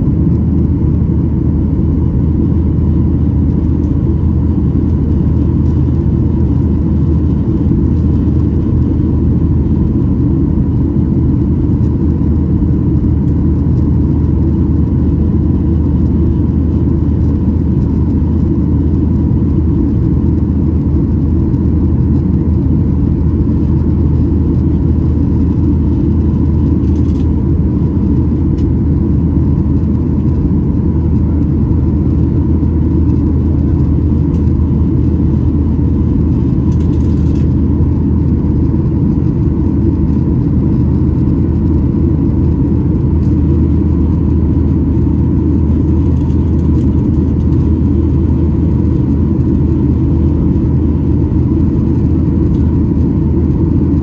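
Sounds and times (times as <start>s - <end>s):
aircraft cabin engine rumble: 0.0s - 54.0s
faint constant hum: 0.0s - 54.0s.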